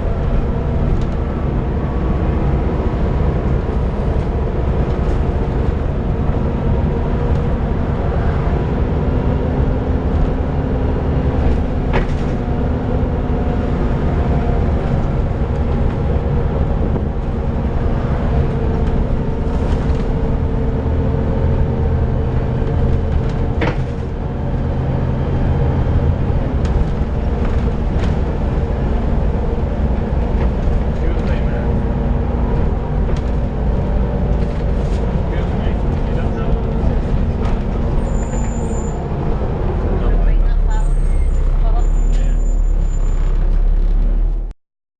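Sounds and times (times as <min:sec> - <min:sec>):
bus engine drone: 0:00.0 - 0:44.5.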